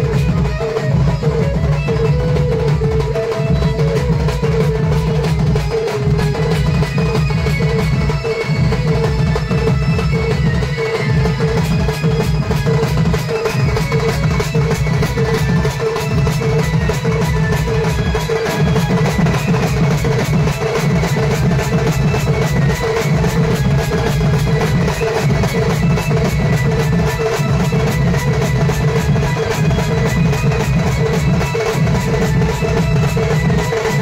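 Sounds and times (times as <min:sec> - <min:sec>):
drum beat: 0:00.0 - 0:34.0.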